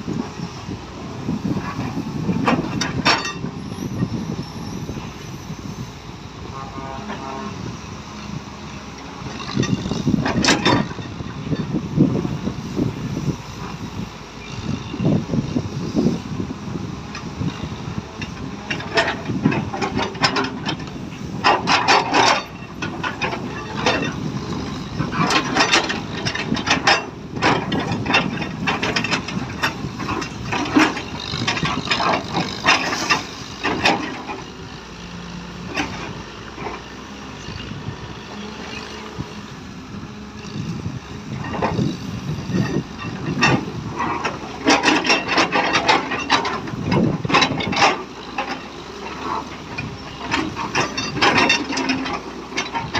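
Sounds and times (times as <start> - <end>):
excavator diesel engine: 0.0 - 52.9.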